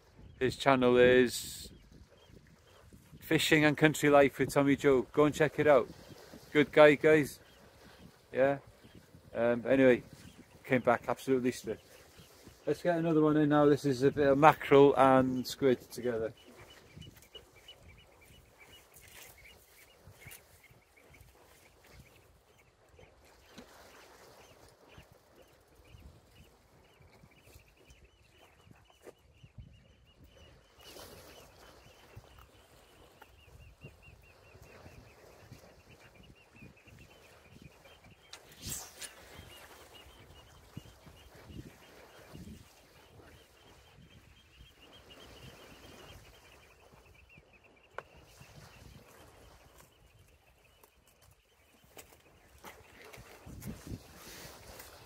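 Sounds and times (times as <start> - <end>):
faint wind and sea: 0.0 - 55.0.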